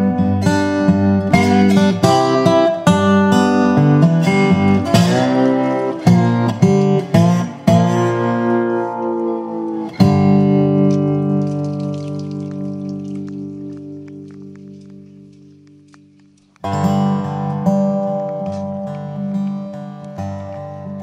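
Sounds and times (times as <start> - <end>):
strummed acoustic guitar chords: 0.0 - 21.0.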